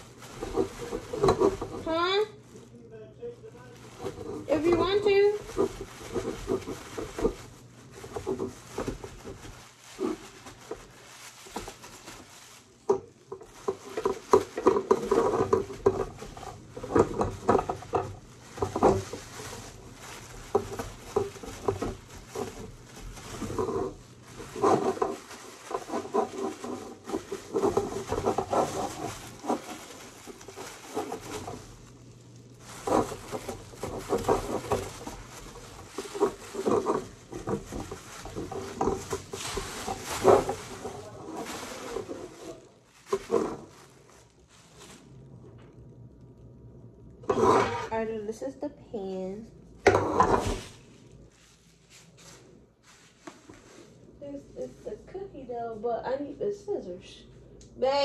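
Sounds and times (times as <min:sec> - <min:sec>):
plastic bag rustling and crinkling: 0:00.0 - 0:57.4.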